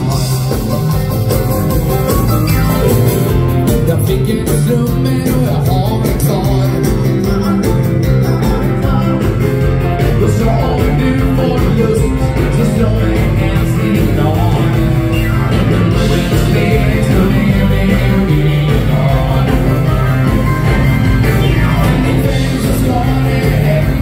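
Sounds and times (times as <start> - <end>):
drums with steady beat: 0.0 - 24.0
electric guitar: 0.0 - 24.0
keyboard: 0.0 - 24.0
person singing: 2.8 - 24.0.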